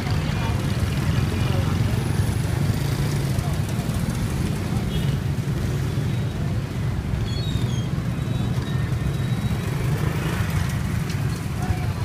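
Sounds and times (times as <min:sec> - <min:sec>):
motorbike engines rumbling: 0:00.0 - 0:12.0.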